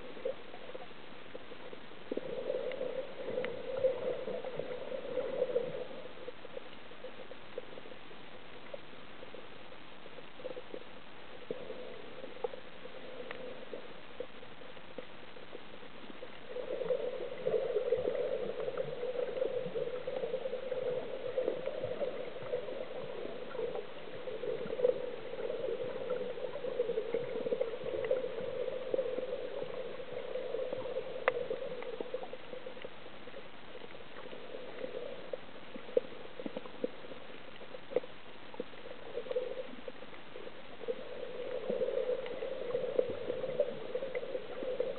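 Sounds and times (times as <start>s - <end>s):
faint clicks: 0.0s - 44.9s
water bubbling and gurgling: 0.0s - 44.9s.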